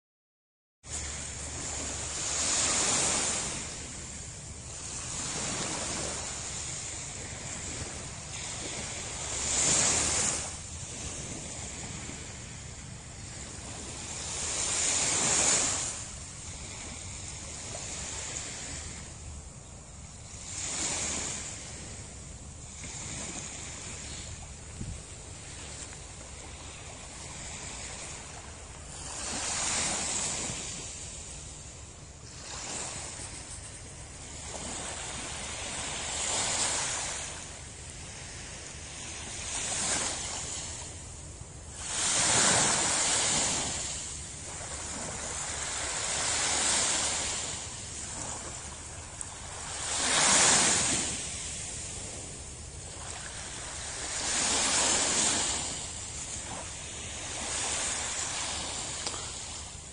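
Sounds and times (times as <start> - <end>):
small waves breaking on shore: 0.9 - 59.9.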